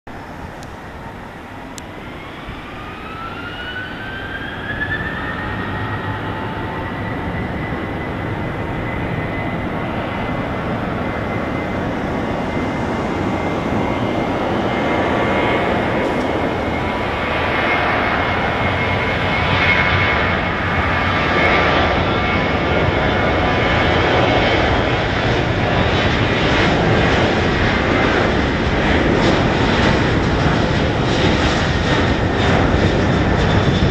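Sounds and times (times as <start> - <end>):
jet engines spooling up: 0.2 - 33.9.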